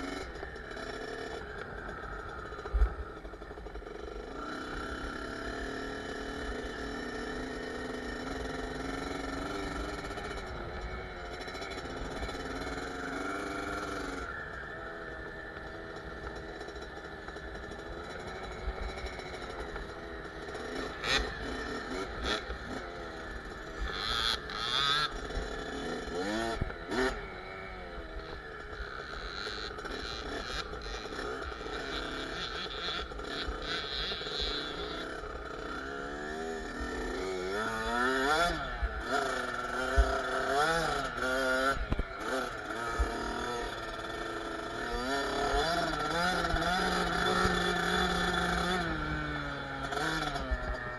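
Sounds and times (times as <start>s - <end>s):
motocross bike engine: 0.0s - 50.9s.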